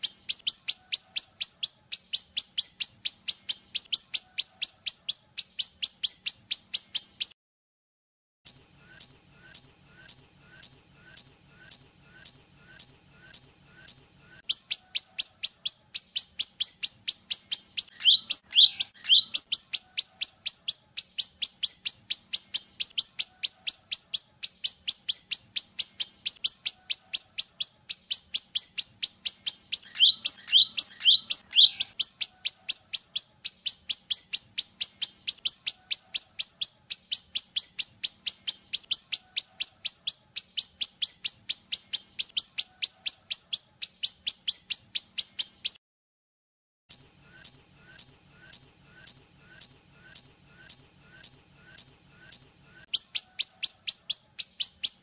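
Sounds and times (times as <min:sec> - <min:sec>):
bird singing high whistles: 0:00.0 - 0:07.4, 0:08.5 - 0:45.8, 0:46.9 - 0:55.0.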